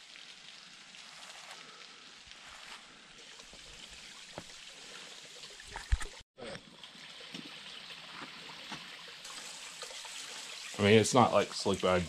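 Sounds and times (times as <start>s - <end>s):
creek water trickling over rock: 0.0s - 12.0s.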